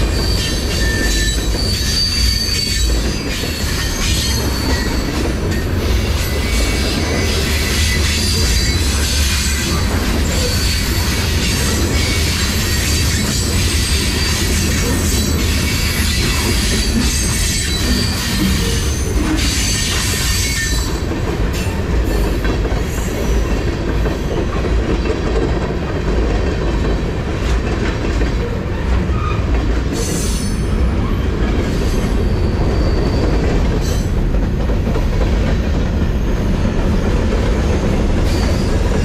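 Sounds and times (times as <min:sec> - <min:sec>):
freight train wheels rumbling on rails: 0:00.0 - 0:39.0.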